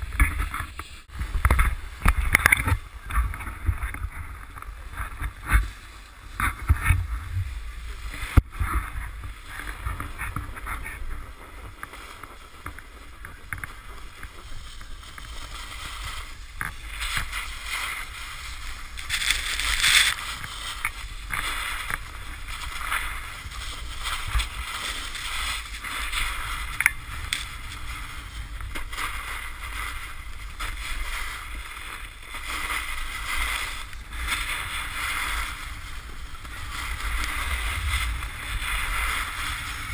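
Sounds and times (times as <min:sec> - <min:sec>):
snowboard scraping on snow: 0:00.0 - 0:39.9
wind on microphone: 0:00.0 - 0:39.9.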